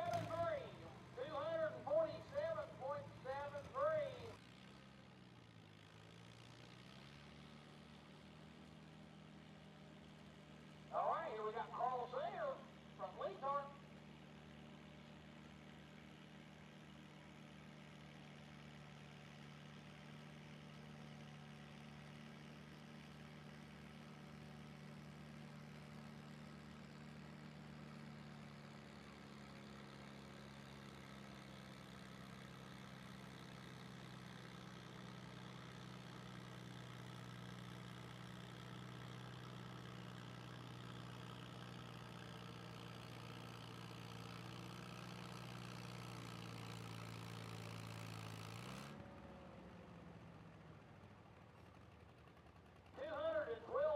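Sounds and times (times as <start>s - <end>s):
faint engine idling: 0.0s - 53.9s.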